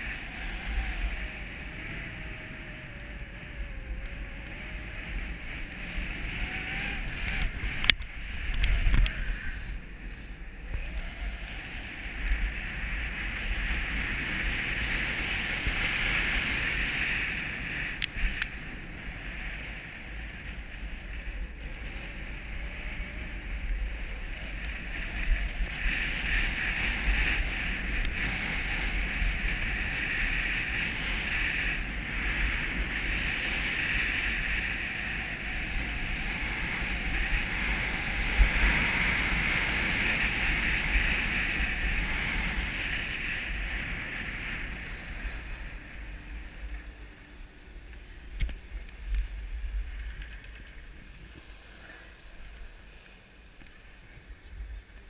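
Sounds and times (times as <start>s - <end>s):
skis sliding over snow: 0.0s - 55.0s
wind buffeting microphone: 0.0s - 55.0s.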